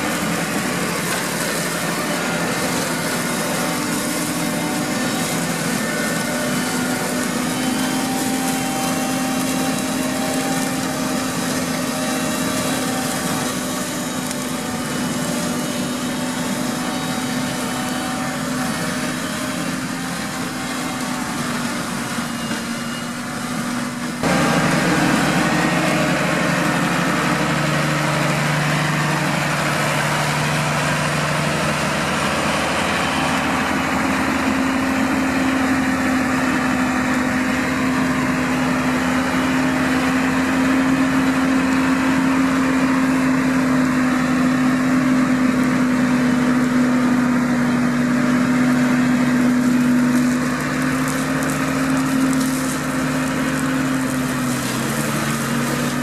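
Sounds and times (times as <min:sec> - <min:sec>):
flail cutter rushing noise: 0:00.0 - 0:56.0
tractor engine drone: 0:00.0 - 0:56.0.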